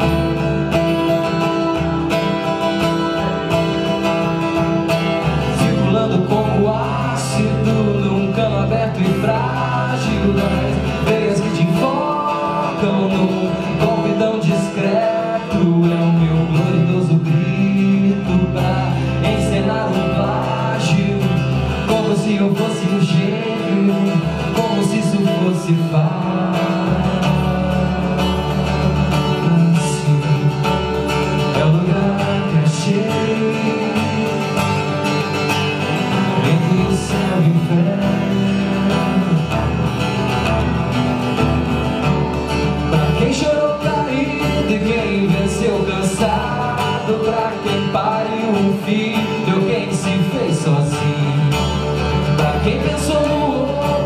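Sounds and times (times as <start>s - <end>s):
man singing: 0.0s - 41.0s, 42.1s - 54.0s
acoustic guitar strumming: 0.0s - 54.0s.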